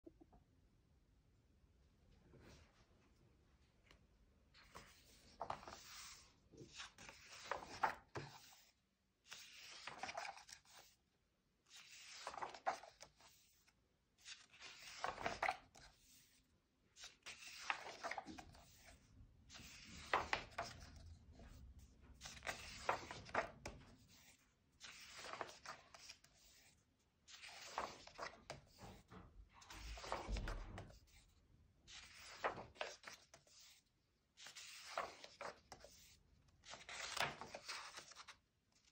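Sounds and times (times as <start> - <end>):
book pages turning: 4.6 - 8.7, 9.3 - 11.0, 11.7 - 16.3, 17.0 - 31.3, 31.9 - 38.9.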